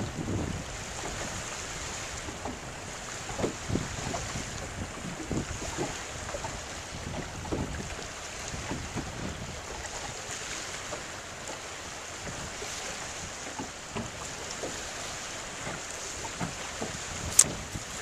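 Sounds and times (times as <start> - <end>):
wind buffeting microphone: 0.0 - 11.2, 12.2 - 18.0
small waves lapping: 0.0 - 18.0.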